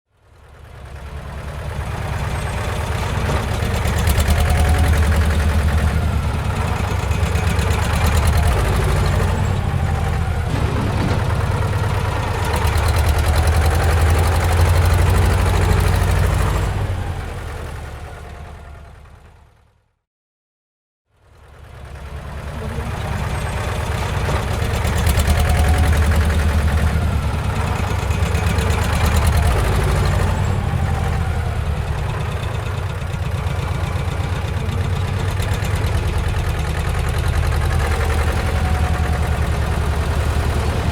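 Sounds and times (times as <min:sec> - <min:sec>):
bulldozer diesel engine rattling: 0:00.2 - 0:19.4, 0:21.3 - 0:40.9.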